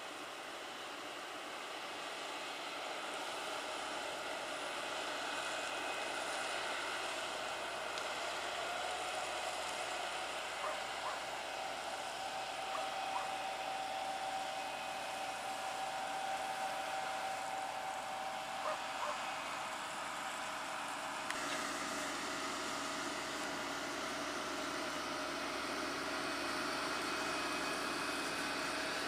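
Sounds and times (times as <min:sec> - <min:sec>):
steady machine whine: 0:00.0 - 0:29.0
tractor engine under load: 0:01.3 - 0:29.0.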